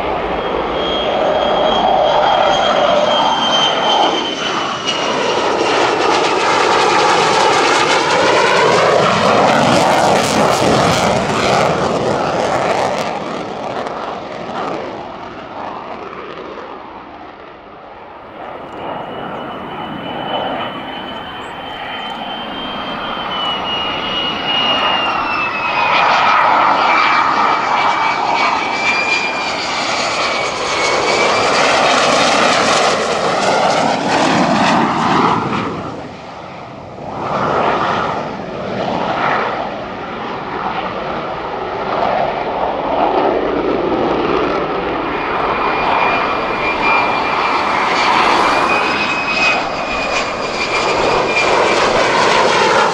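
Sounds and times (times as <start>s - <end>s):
jet roar with falling whine: 0.0s - 52.9s.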